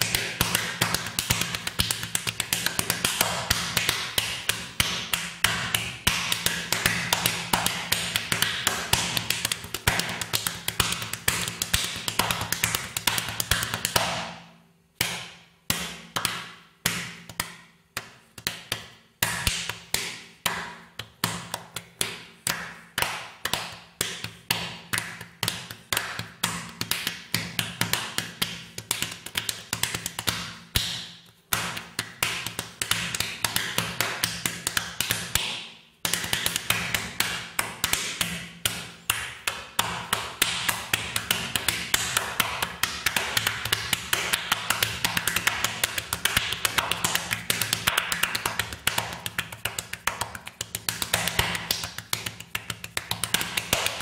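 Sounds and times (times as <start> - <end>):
sharp percussive taps: 0.0 - 14.4, 15.0 - 54.0.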